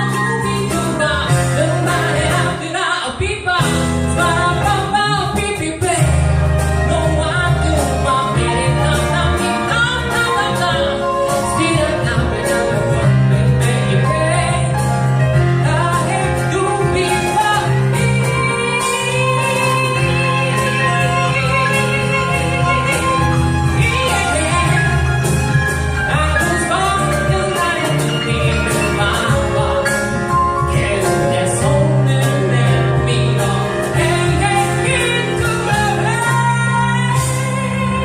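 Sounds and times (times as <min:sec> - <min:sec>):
jazzy pop band instrumental: 0:00.0 - 0:38.0.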